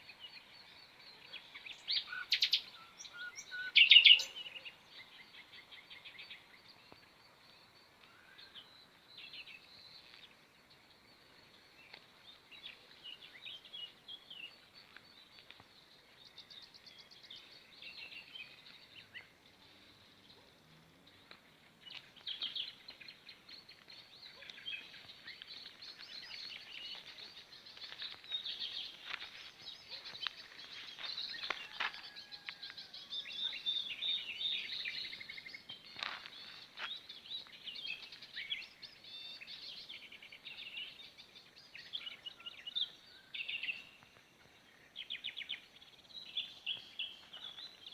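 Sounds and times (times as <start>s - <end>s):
small songbirds chirping: 0.0s - 47.9s.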